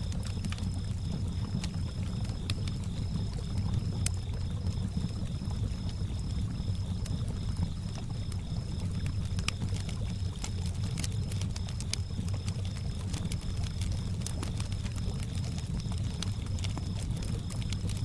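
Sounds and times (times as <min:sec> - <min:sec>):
crickets chirping: 0:00.0 - 0:18.0
fire crackles: 0:00.0 - 0:18.0.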